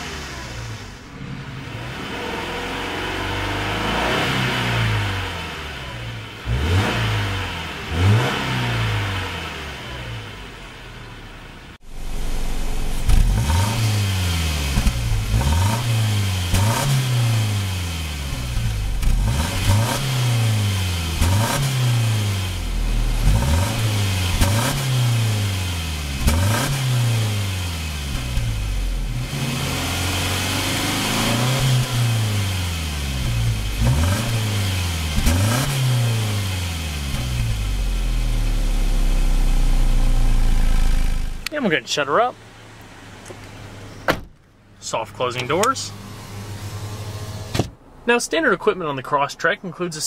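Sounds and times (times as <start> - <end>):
car engine revving: 0.0 - 44.1, 44.8 - 49.0.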